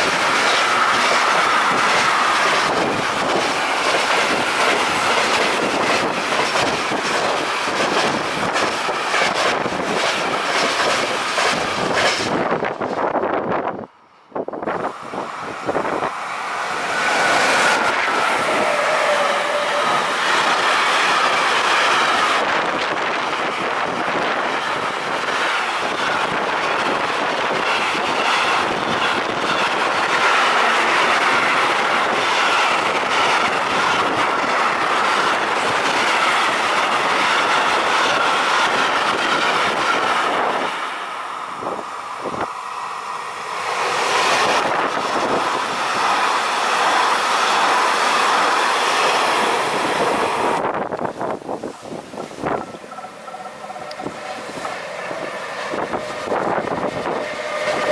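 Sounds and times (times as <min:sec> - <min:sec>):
high ringing from train wheels: 0:00.0 - 0:12.9, 0:14.8 - 0:57.9
freight train wheels rolling on rails: 0:00.0 - 0:57.9
passenger train passing: 0:00.0 - 0:57.9.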